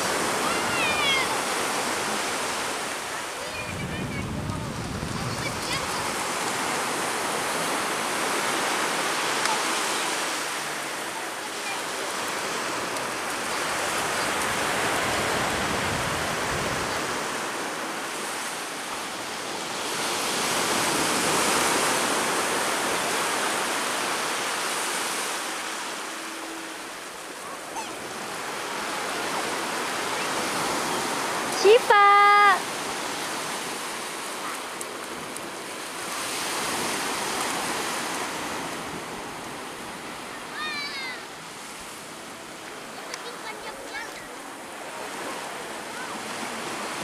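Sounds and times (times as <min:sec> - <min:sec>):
sea surf washing onto beach: 0:00.0 - 0:47.0.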